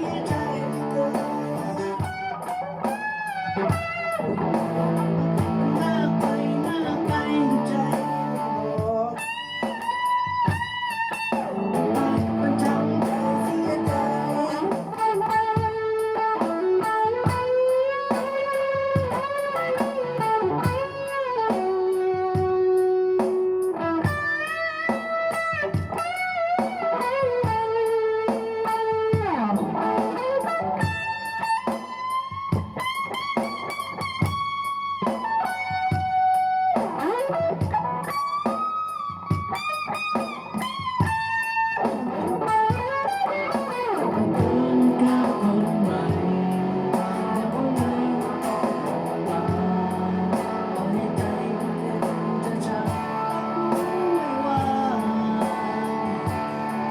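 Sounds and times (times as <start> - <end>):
electric guitar chords: 0.0 - 56.9
electric guitar lead notes: 0.0 - 56.9.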